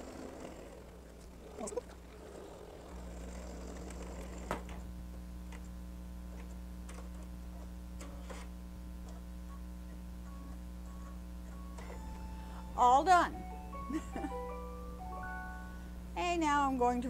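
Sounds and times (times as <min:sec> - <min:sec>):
embroidery machine humming: 0:00.0 - 0:17.0.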